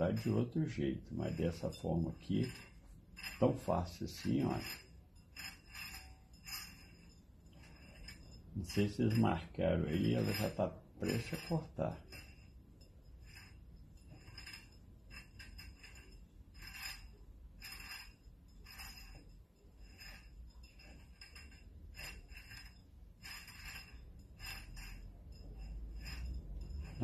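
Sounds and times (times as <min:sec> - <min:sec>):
glass bottle squeaks and clinks: 0:00.0 - 0:27.0.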